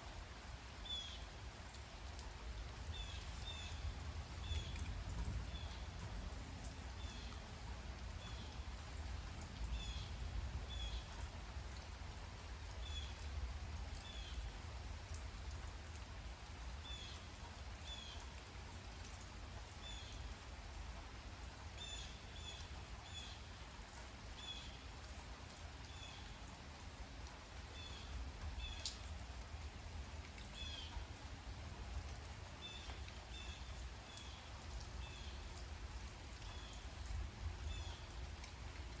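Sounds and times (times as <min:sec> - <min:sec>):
light rain falling: 0:00.0 - 0:39.0.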